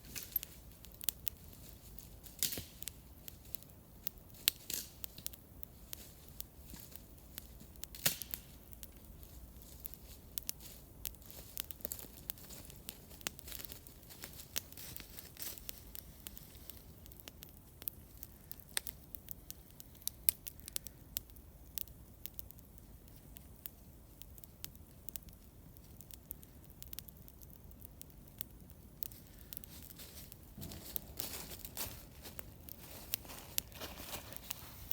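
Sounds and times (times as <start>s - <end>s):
campfire crackling and popping: 0.0s - 34.9s
faint hiss: 0.0s - 34.9s.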